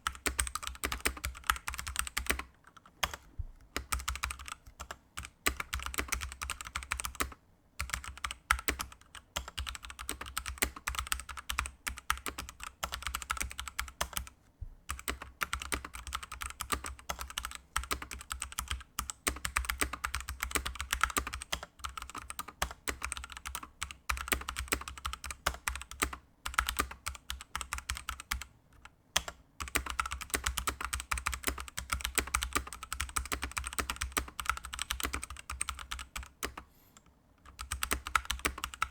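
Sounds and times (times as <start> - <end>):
fast typing on mechanical keyboard: 0.0 - 14.3, 14.9 - 28.5, 29.2 - 36.6, 37.4 - 38.9.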